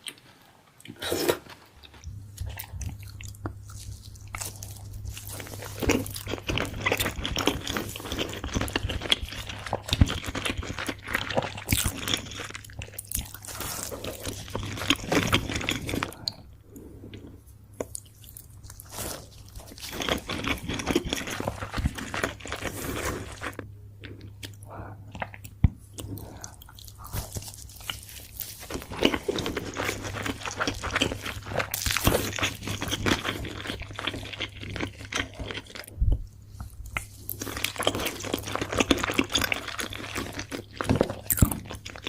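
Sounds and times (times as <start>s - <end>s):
low steady hum: 0.0s - 42.0s
chewing and biting food: 0.8s - 17.2s, 17.8s - 42.0s.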